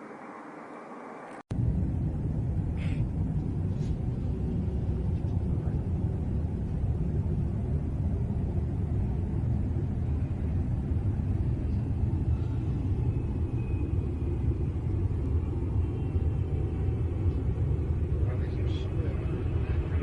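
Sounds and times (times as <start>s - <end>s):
low rumbling drone: 0.0s - 20.0s.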